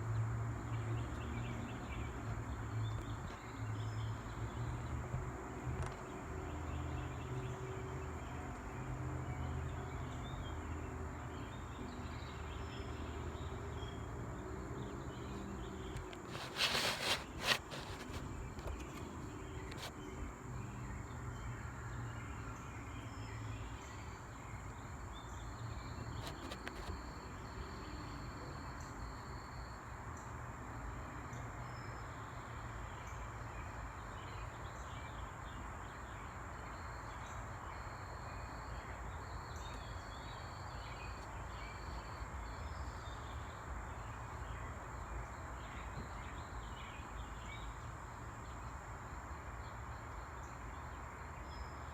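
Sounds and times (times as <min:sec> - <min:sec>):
insects droning: 0:00.5 - 0:51.9.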